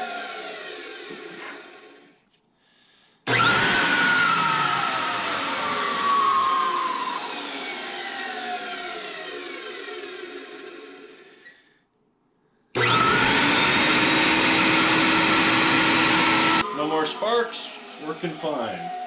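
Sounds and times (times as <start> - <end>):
vacuum motor whining: 0.0 - 2.1, 3.3 - 11.5, 12.8 - 19.0.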